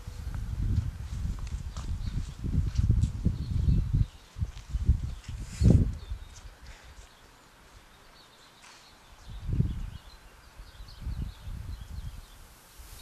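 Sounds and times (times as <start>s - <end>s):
wind gusts on microphone: 0.0s - 7.0s, 9.2s - 13.0s.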